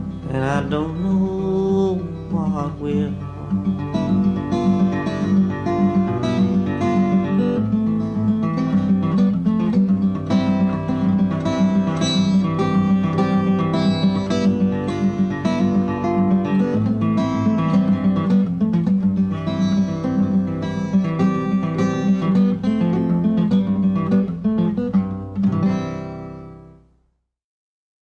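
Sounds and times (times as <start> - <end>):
solo acoustic guitar: 0.0 - 27.2.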